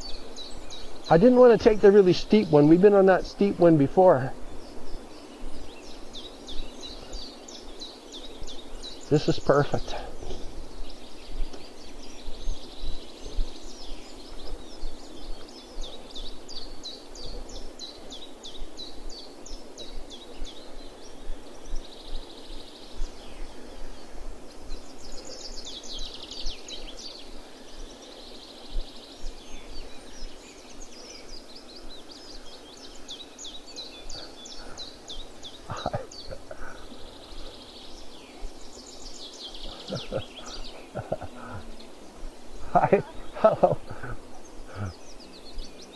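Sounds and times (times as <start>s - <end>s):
outdoor rustle: 0.0s - 45.9s
songbirds trilling: 0.0s - 45.9s.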